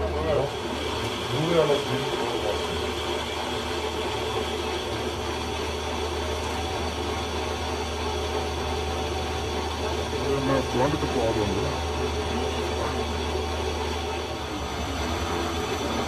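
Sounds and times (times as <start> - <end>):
metal lathe humming: 0.0 - 16.0.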